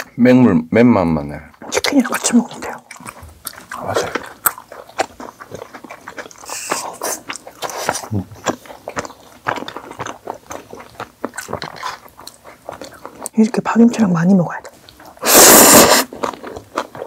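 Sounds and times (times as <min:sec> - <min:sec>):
biting and chewing with wet smacks: 0:01.4 - 0:17.0.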